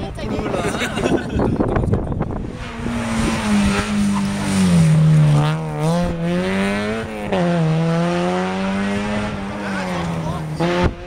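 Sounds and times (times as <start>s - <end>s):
rally car engine running hard: 0.4s - 11.0s.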